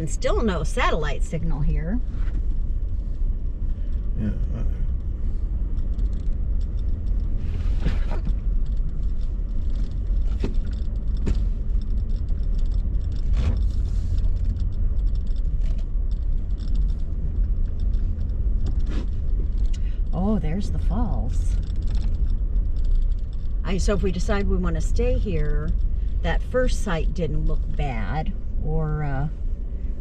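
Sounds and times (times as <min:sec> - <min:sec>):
truck engine rumble: 0:00.0 - 0:30.0.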